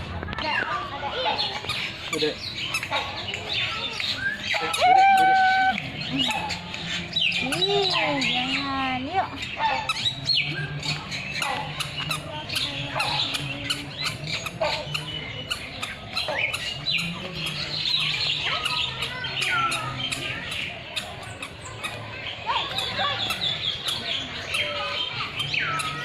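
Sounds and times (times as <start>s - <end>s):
birds chirping and squawking: 0.3s - 26.0s.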